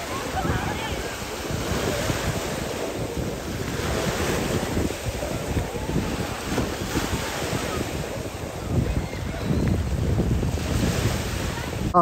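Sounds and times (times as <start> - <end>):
small sea waves washing: 0.0 - 12.0
wind on microphone: 0.0 - 12.0.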